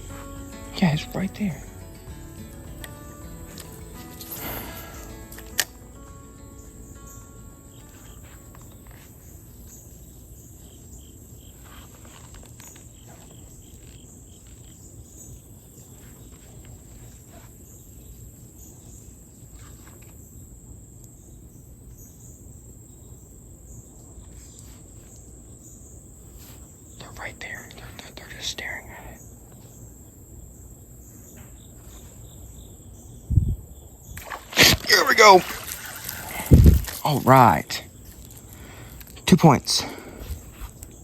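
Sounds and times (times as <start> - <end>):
high-pitched insect chorus: 0.0 - 19.4, 20.0 - 41.0.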